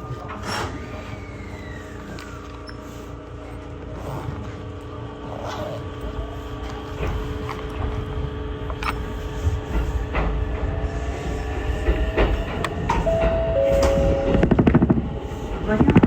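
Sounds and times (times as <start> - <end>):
train interior low rumble: 0.0 - 16.0
electrical hum: 3.0 - 16.0.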